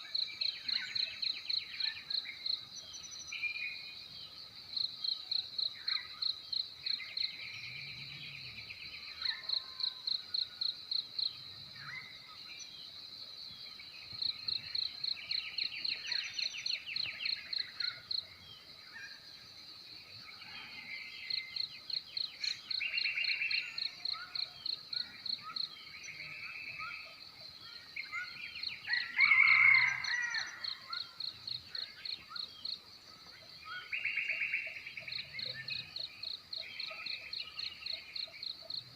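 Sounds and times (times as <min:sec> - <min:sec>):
bird calls and trills: 0:00.0 - 0:38.9
crickets chirping: 0:00.0 - 0:38.9.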